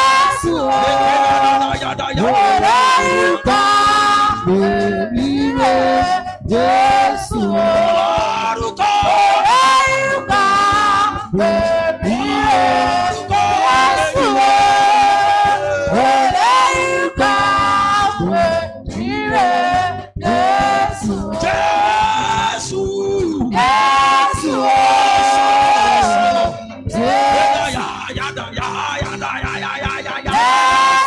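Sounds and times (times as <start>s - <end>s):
church worship singing: 0.0s - 31.0s.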